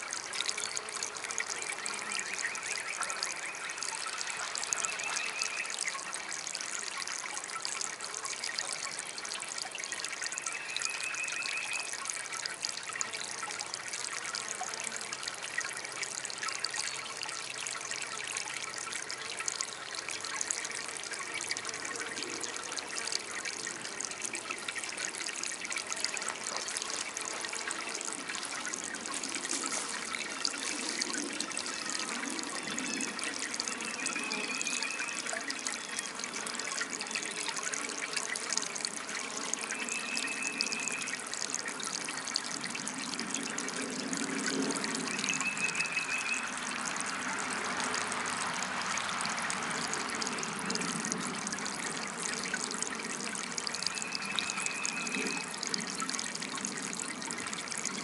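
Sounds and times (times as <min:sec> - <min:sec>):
water fountain trickling and splashing: 0:00.0 - 0:58.0.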